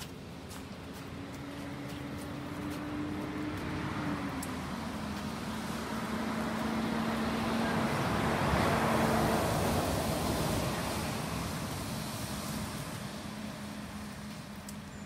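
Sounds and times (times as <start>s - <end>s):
approaching motor vehicle: 0.0s - 15.0s.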